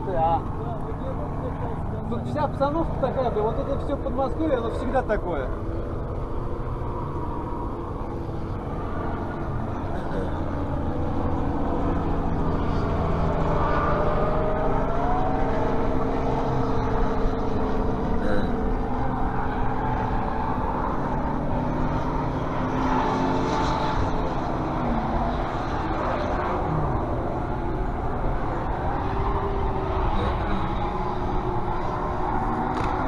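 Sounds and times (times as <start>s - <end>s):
car engines in traffic: 0.0s - 33.0s.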